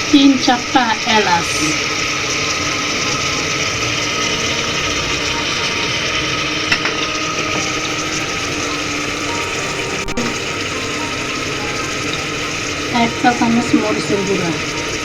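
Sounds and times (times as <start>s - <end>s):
spices sizzling in oil: 0.0s - 15.0s.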